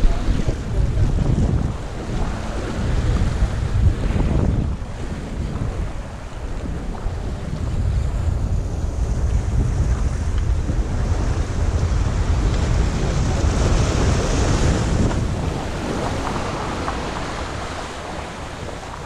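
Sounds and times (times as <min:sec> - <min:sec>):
waves washing against rocks: 0:00.0 - 0:19.0
wind buffeting microphone: 0:00.0 - 0:19.0.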